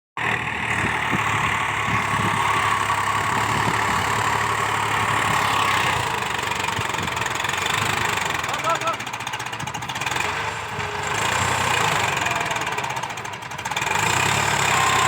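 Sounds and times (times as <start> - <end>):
tractor diesel engine running: 0.2 - 15.0.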